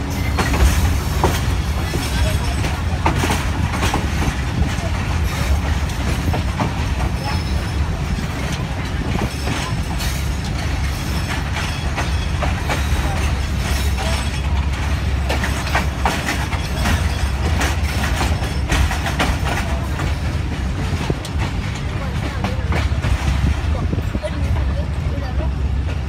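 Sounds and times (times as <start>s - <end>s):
train rumbling: 0.0s - 26.0s
train wheels clicking and clacking: 0.0s - 26.0s.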